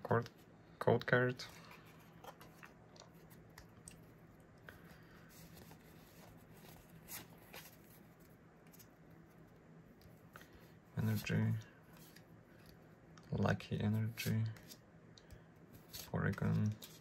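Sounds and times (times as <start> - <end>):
low steady hum: 0.0 - 17.0
trading cards rustling and ticking: 0.2 - 17.0.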